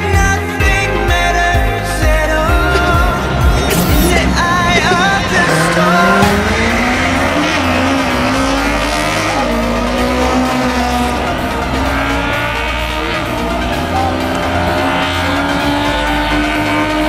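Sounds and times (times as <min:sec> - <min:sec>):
drag racing cars accelerating: 0:00.0 - 0:17.0.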